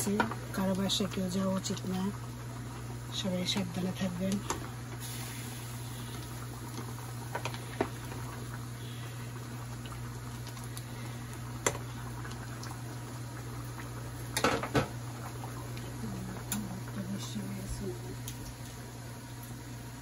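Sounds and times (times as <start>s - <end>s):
pot simmering hiss: 0.0s - 20.0s.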